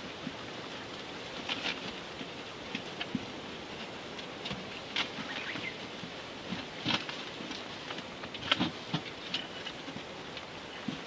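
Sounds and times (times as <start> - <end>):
rabbits rustling in straw: 0.0 - 11.0.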